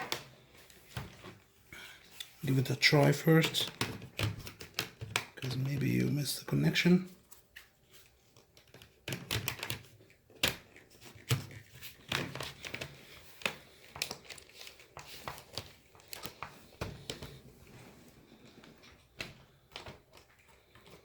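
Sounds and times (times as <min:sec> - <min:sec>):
crinkling rustles: 0:00.0 - 0:21.0.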